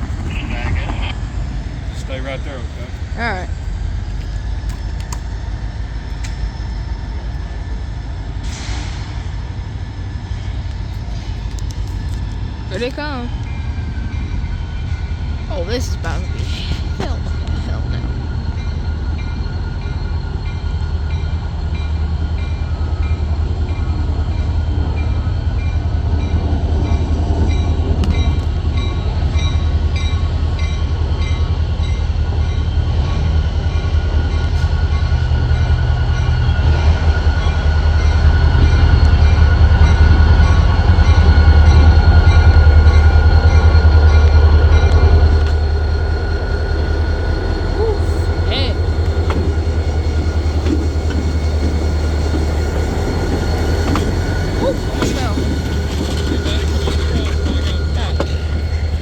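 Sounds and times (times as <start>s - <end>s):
locomotive engine rumble: 0.0s - 59.0s.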